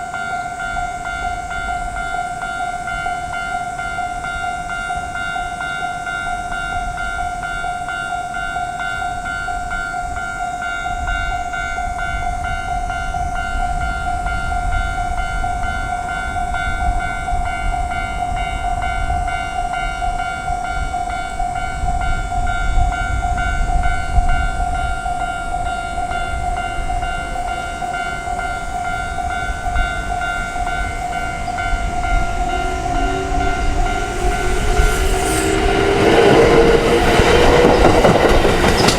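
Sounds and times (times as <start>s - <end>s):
level-crossing warning bell: 0.0s - 38.9s
train rumbling: 0.0s - 38.9s.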